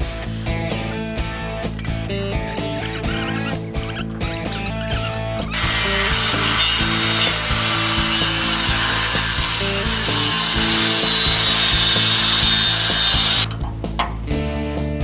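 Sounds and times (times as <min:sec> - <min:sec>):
background music: 0:00.0 - 0:15.0
angle grinder grinding steel: 0:00.8 - 0:13.5.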